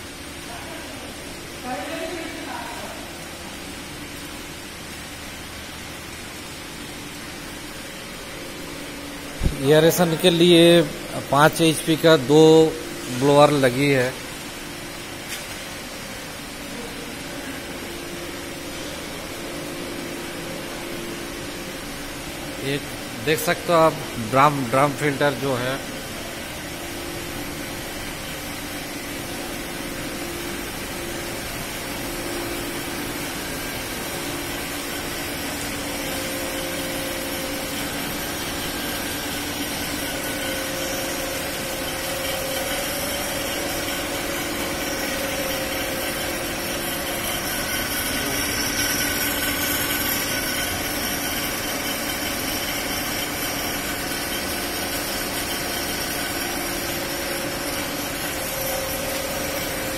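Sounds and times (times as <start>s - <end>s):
air blower humming: 6.2s - 59.9s.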